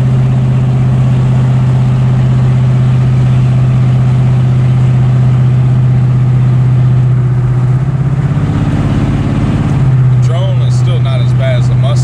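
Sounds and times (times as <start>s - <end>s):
engine idling through open exhaust: 0.0s - 12.0s.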